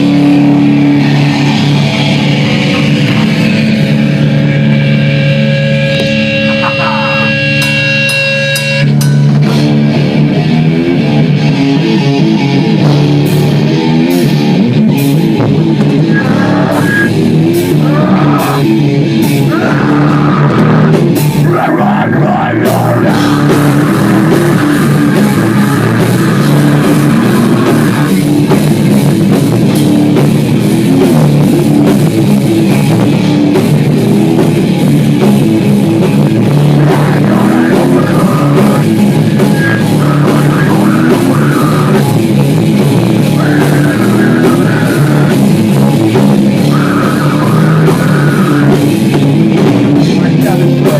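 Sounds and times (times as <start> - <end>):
heavy metal song: 0.0 - 50.9.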